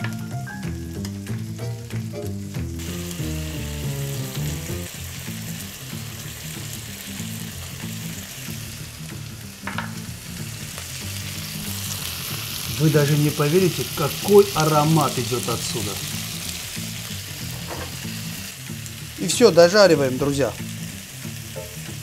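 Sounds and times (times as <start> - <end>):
soft background music: 0.0 - 22.0
meat sizzling in grill pan: 0.1 - 22.0.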